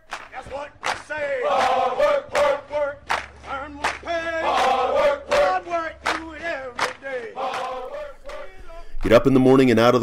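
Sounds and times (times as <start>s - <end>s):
group chanting in unison: 0.3s - 8.9s.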